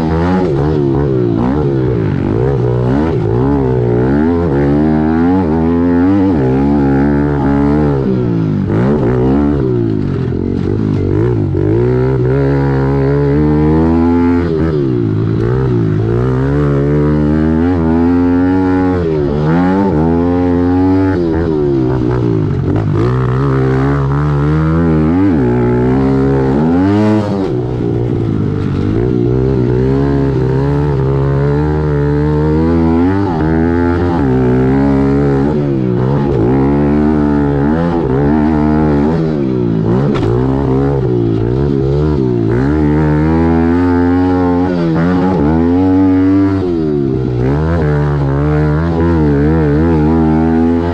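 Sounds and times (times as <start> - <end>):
dirt bike engine revving: 0.0 - 50.9
other pit bike engines: 0.0 - 50.9.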